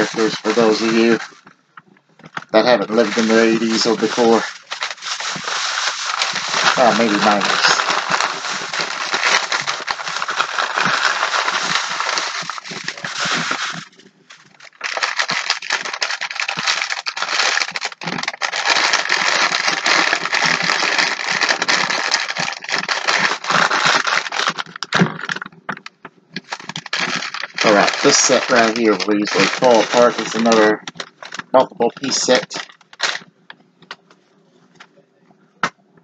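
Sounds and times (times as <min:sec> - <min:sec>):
plastic bag and paper crinkling: 0:00.0 - 0:01.6, 0:02.2 - 0:34.9.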